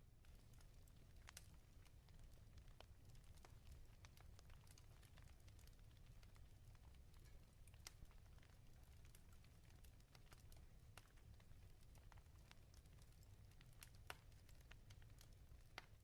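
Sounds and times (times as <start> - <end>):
wood fire crackling: 0.0 - 16.0
low rumble of flames: 0.1 - 16.0
fire popping and snapping: 0.2 - 16.0.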